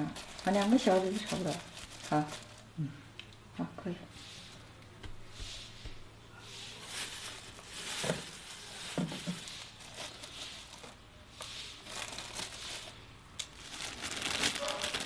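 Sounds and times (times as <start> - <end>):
rustling and crinkling handling: 0.0 - 2.8, 4.2 - 15.0.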